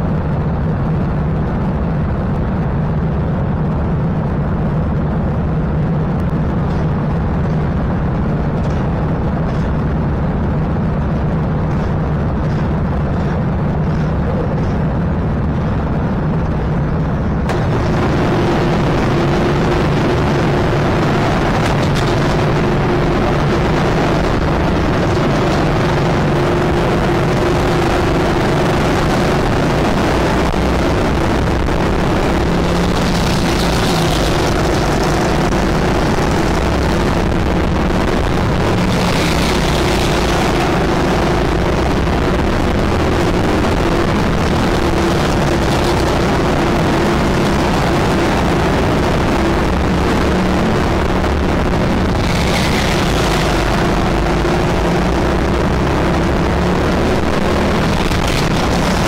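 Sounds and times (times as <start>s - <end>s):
go-kart engines accelerating: 0.0s - 59.0s.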